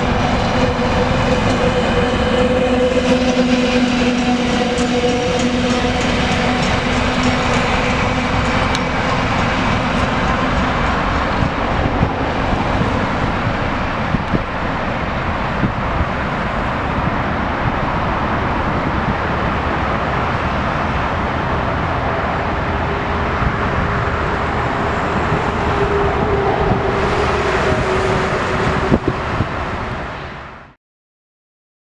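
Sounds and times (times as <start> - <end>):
train wheels rumbling on rails: 0.0 - 30.4.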